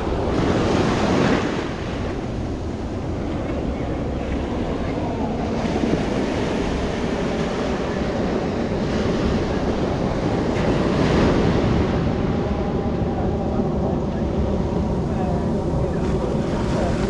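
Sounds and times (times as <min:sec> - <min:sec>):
ocean surf breaking: 0:00.0 - 0:17.0
wind noise on microphone: 0:00.0 - 0:17.0.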